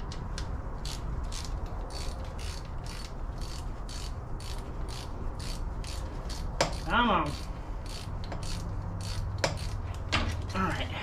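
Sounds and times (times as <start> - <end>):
ratchet wrench clicking: 0.0 - 10.6.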